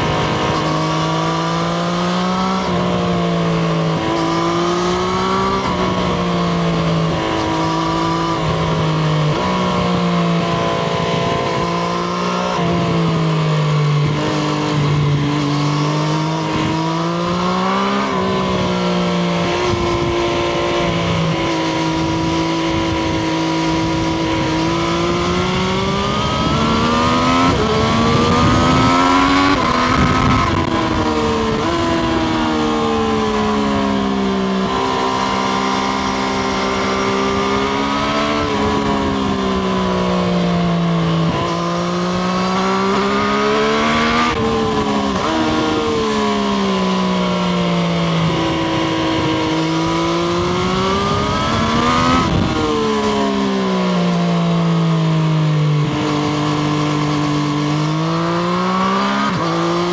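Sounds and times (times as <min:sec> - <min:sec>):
wind noise: 0:00.0 - 0:54.6
motorcycle engine revving: 0:00.0 - 0:59.9.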